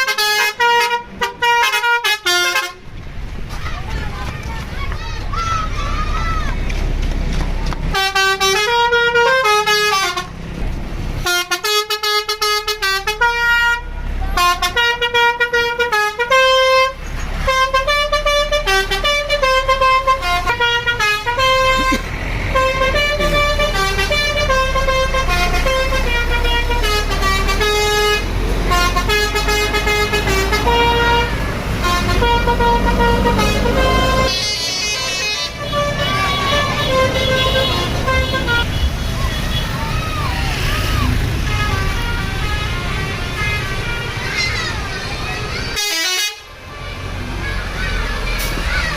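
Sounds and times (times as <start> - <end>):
multi-tone musical bus horn: 0.0 - 3.0, 7.9 - 10.4, 11.2 - 48.6.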